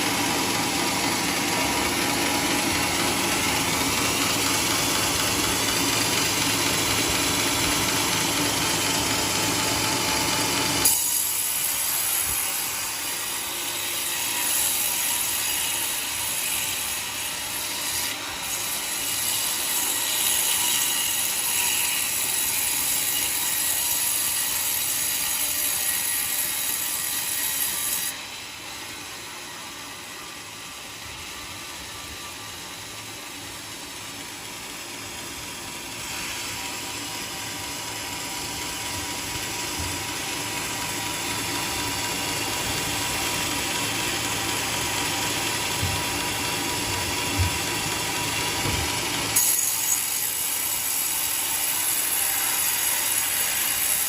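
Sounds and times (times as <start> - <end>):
sawmill cutting timber: 0.0 - 54.0.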